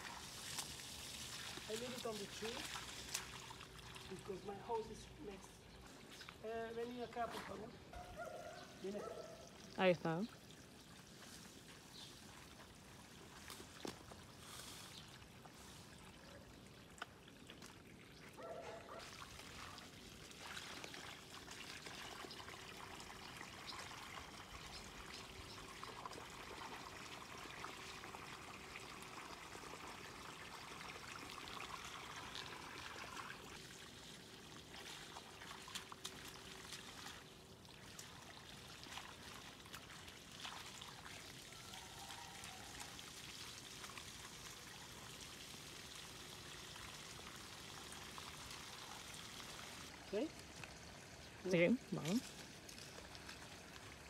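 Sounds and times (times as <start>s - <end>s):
water trickling onto soil: 0.0s - 54.0s.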